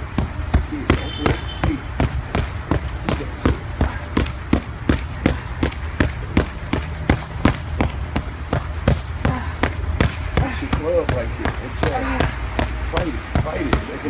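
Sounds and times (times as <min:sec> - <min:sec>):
boxing gloves punching: 0:00.0 - 0:14.0.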